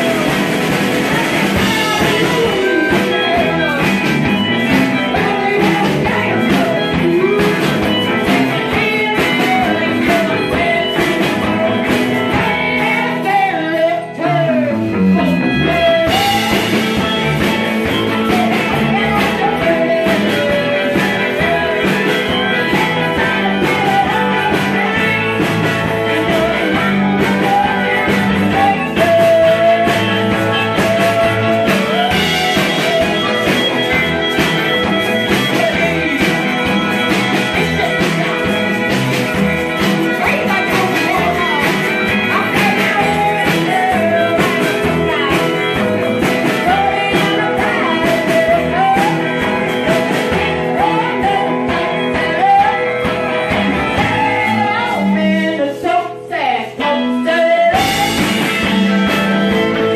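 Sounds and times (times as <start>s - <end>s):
blues rock guitar: 0.0s - 59.9s
person singing: 0.0s - 59.9s.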